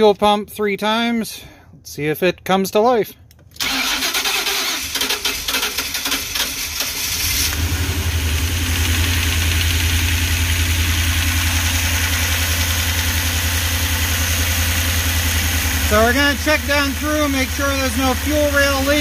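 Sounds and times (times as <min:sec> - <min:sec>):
van engine starting and idling: 0:03.4 - 0:19.0.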